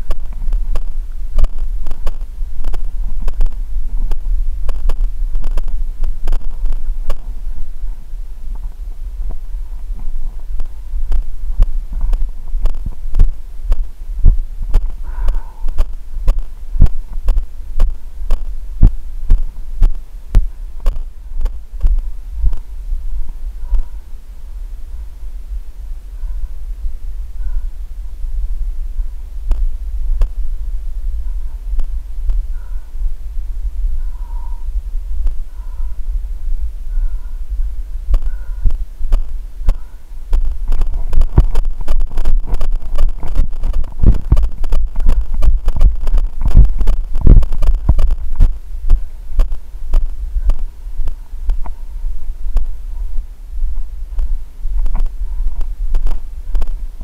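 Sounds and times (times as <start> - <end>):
steady low rumble: 0.0 - 57.0
wind on microphone: 0.0 - 57.0.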